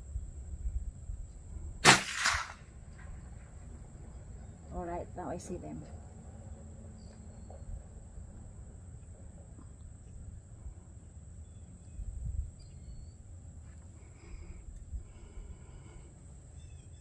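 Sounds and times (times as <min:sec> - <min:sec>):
wind rumble on microphone: 0:00.0 - 0:06.1, 0:07.0 - 0:13.4, 0:14.1 - 0:17.0.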